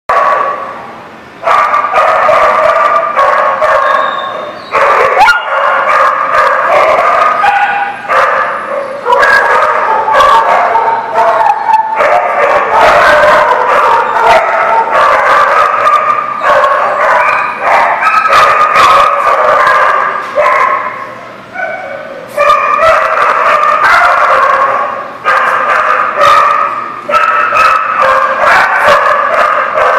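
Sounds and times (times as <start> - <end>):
dogs barking and yipping: 0.1 - 0.8, 1.4 - 29.9.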